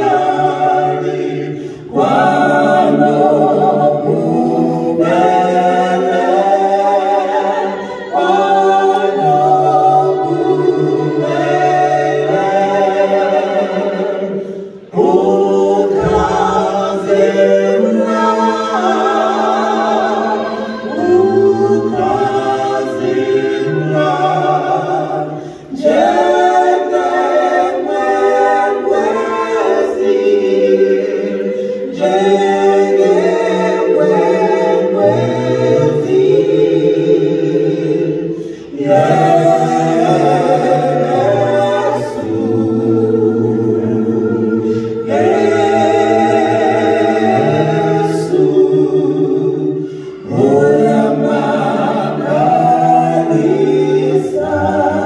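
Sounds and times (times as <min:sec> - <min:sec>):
vocal quartet singing in harmony: 0:00.0 - 0:55.0.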